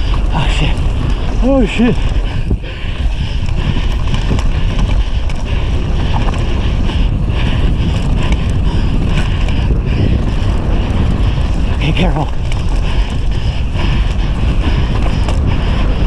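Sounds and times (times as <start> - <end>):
bike tyres rumbling on dirt: 0.0 - 16.0
wind buffeting microphone: 0.0 - 16.0.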